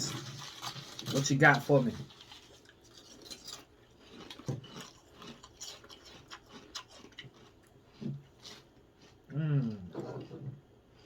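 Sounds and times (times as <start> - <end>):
person chewing crunchy cereal: 0.0 - 11.0.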